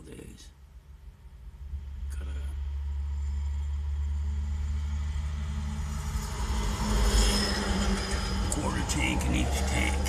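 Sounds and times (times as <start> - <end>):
vehicle engine humming: 0.8 - 10.0.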